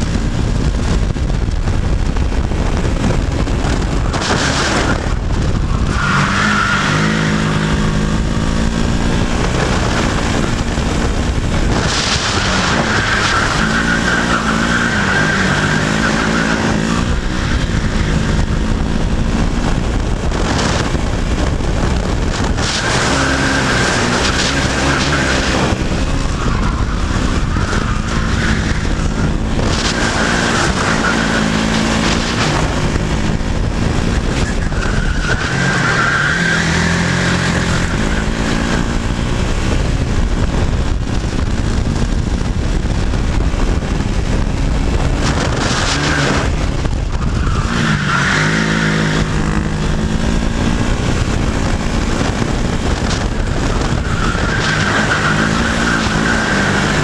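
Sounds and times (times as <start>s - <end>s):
two-stroke kart engine racing: 0.0s - 57.0s
wind rushing over microphone: 0.0s - 57.0s.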